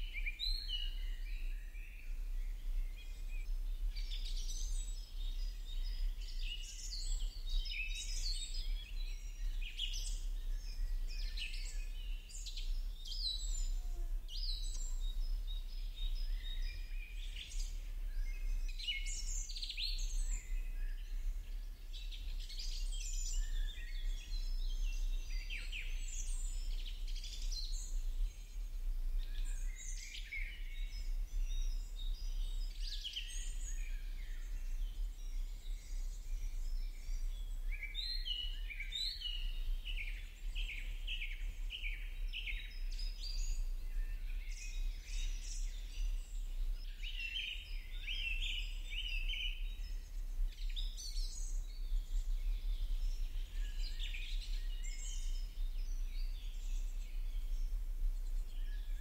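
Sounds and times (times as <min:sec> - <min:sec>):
birds chirping and singing: 0:00.1 - 0:59.0.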